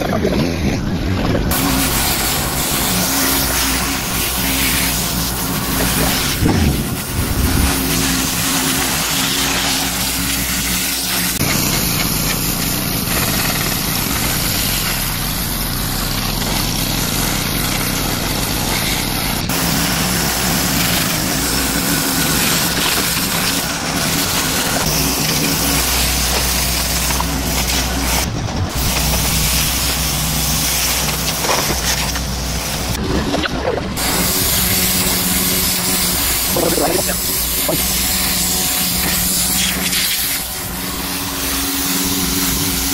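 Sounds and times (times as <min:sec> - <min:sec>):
pressure washer engine running: 0:00.0 - 0:42.9
water spray blasting metal: 0:01.5 - 0:42.9.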